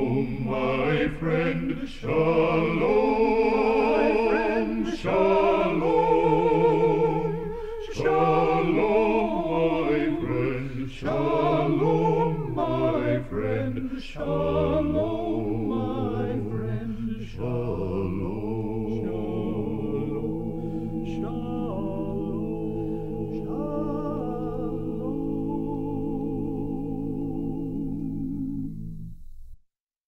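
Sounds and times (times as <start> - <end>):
male vocal quartet singing: 0.0 - 28.7.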